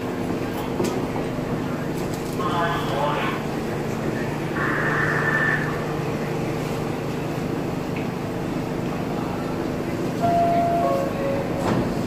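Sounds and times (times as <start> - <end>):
subway train equipment humming: 0.0 - 12.0.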